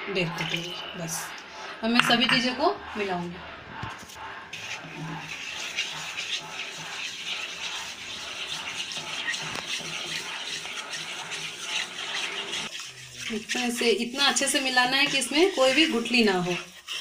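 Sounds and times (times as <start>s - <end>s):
spatula swishing and scraping pan: 0.0s - 17.0s.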